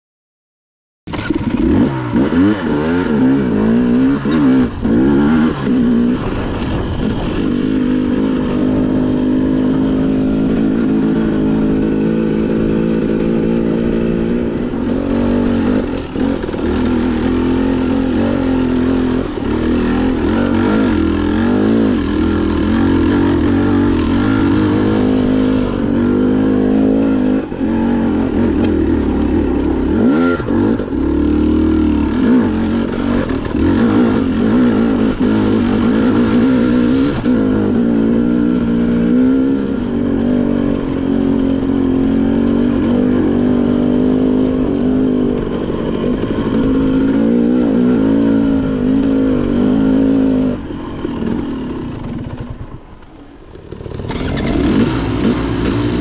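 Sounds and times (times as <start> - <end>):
dirt bike engine revving: 1.1 - 56.0.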